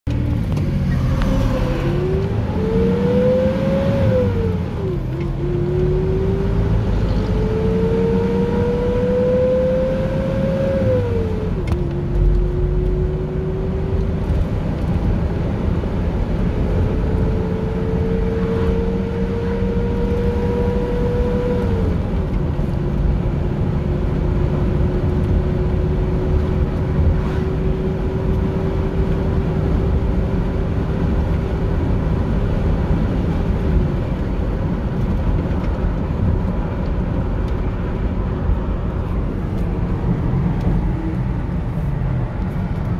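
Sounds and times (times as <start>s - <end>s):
van engine accelerating: 0.1s - 42.9s.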